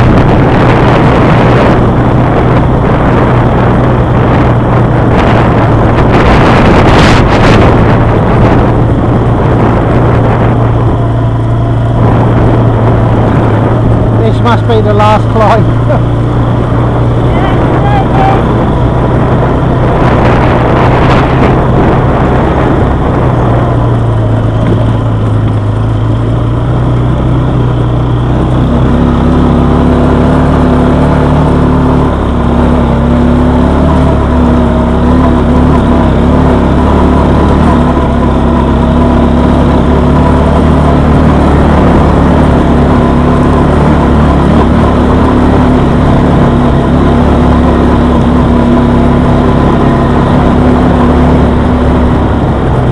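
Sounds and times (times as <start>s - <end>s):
quad bike engine running: 0.0s - 52.9s.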